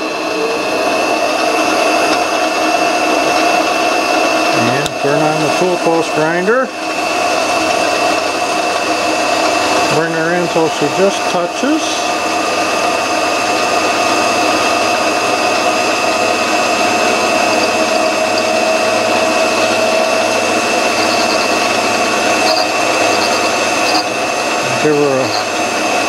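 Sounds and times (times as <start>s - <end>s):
grinder motor whining: 0.0s - 26.0s
lathe running: 0.0s - 26.0s.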